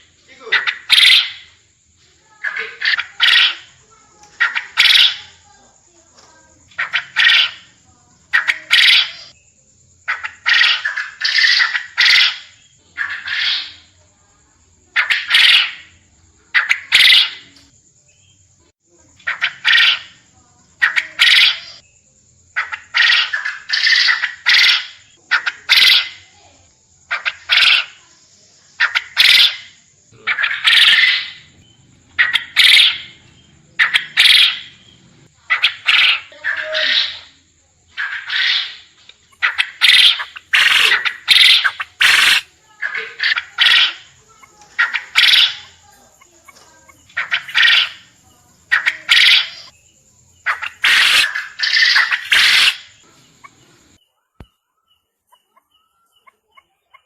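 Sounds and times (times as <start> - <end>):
quail calling: 0.0 - 1.6, 2.3 - 5.5, 6.6 - 9.4, 10.0 - 14.0, 14.9 - 17.7, 19.2 - 21.8, 22.6 - 26.4, 27.1 - 28.1, 28.7 - 49.8, 50.4 - 54.0.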